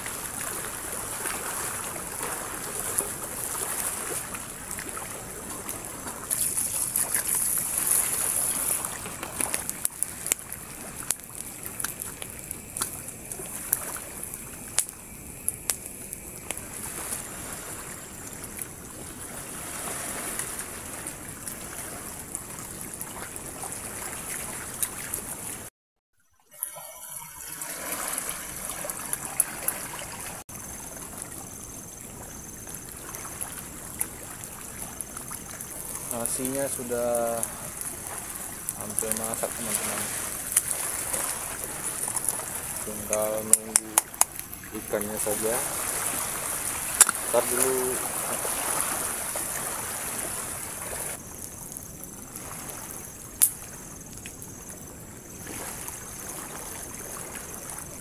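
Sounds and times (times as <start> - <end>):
campfire crackling and popping: 0.0 - 25.7, 26.9 - 58.0.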